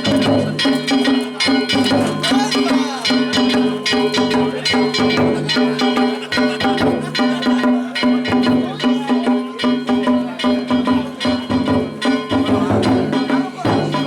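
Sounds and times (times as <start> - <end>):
taiko drums: 0.0 - 14.0.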